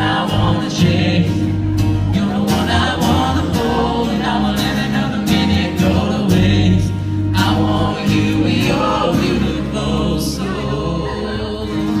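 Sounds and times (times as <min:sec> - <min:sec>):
voices singing: 0:00.0 - 0:12.0.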